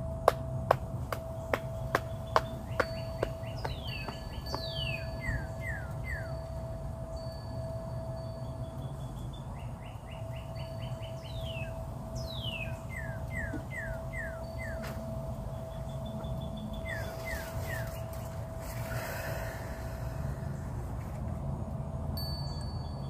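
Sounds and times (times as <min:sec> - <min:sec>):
steady hum tone: 0:00.0 - 0:23.0
birds singing: 0:00.2 - 0:19.2.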